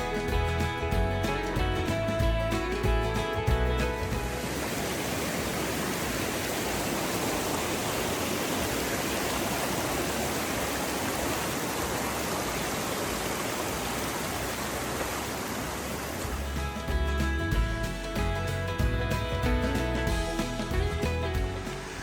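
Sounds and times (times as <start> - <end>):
fast-flowing water rushing: 0.0 - 22.0.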